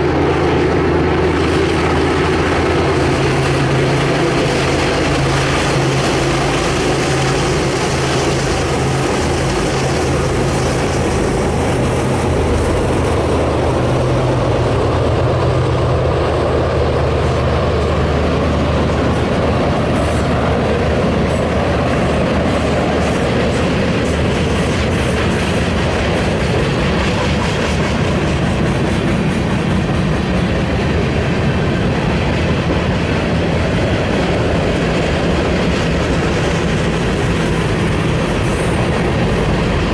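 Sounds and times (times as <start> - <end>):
diesel locomotive engines: 0.0 - 39.9
freight cars rolling on rails: 0.0 - 39.9.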